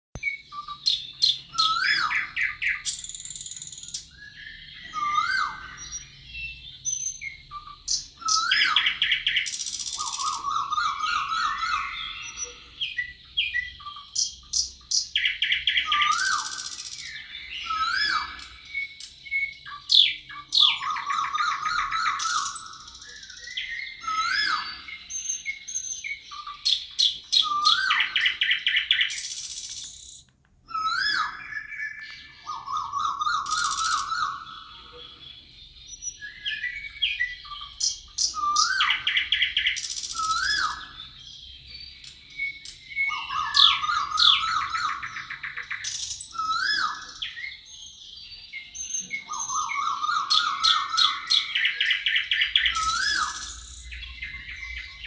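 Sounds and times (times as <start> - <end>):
songbirds singing and calling: 0.2 - 55.0.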